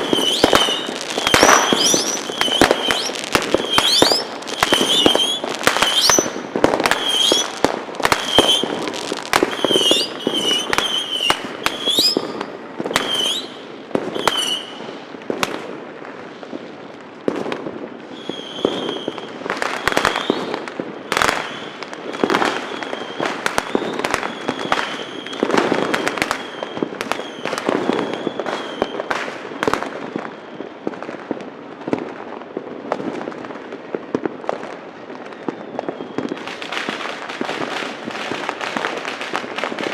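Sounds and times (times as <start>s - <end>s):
wavering firework whistles: 0.0s - 15.0s, 18.0s - 31.0s, 35.2s - 39.9s
firecrackers banging and crackling: 0.0s - 39.9s.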